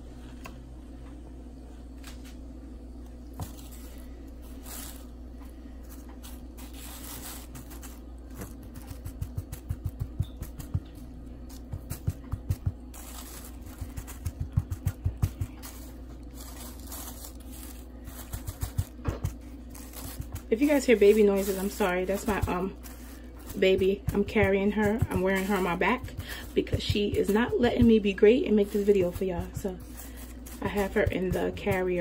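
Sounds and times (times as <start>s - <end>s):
plastic bag rustling: 3.3s - 32.0s.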